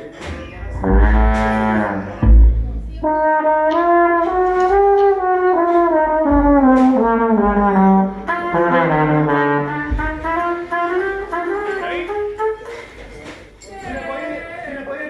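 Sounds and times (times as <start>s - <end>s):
brass instruments playing: 0.6s - 13.0s.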